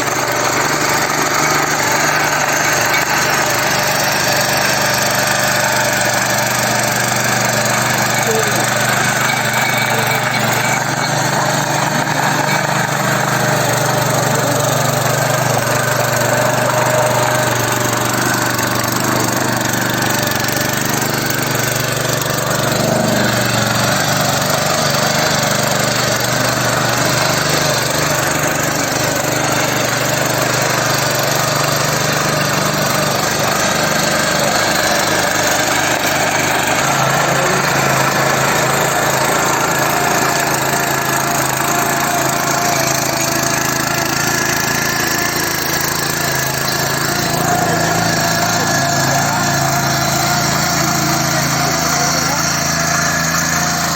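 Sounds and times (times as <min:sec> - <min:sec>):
tiller engine running under load: 0:00.0 - 0:53.9.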